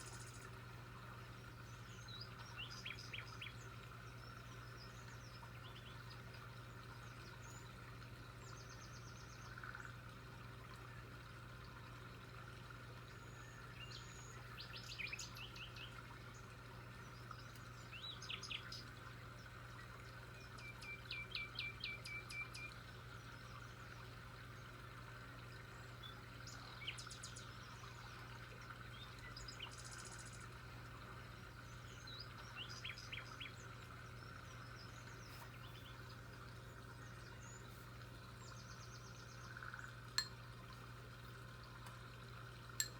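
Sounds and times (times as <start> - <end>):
faint birdsong: 0.0 - 42.9.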